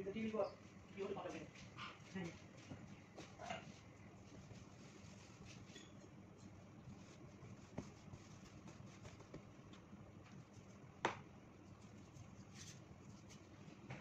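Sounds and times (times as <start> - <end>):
low steady hum: 0.0 - 14.0
hands kneading dough: 0.1 - 14.0.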